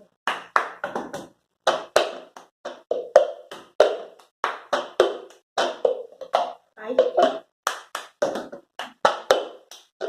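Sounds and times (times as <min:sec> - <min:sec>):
cup being tapped rhythmically: 0:00.4 - 0:10.0.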